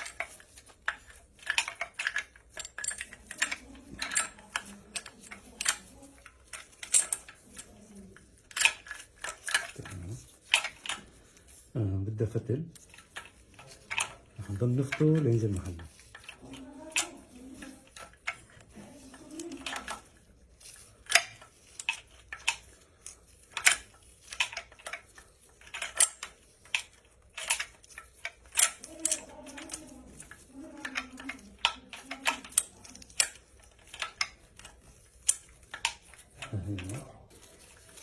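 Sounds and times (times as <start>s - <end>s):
metal clicks and clinks: 0.0s - 38.0s.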